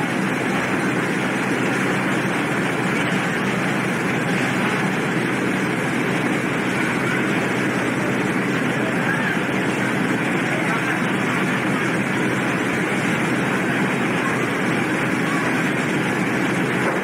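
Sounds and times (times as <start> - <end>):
ship engines droning: 0.0 - 17.0.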